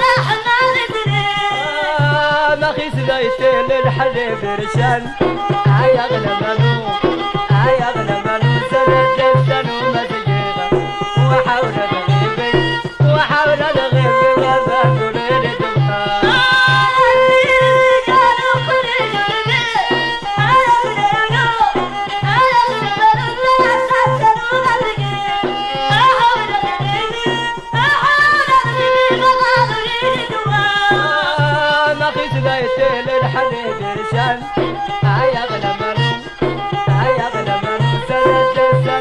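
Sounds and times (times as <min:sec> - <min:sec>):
bowed fiddle melody: 0:00.0 - 0:39.0
hand drum beat: 0:00.0 - 0:39.0
person singing: 0:00.0 - 0:39.0.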